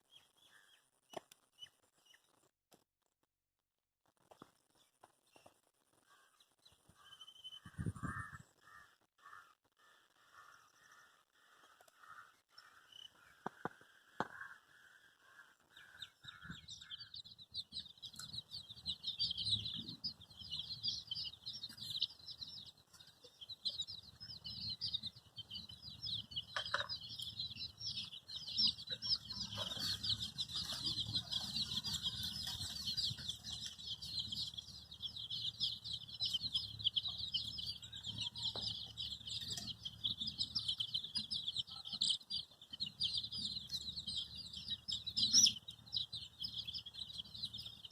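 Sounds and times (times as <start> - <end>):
baby chicks peeping: 0.0 - 2.5, 4.2 - 47.9.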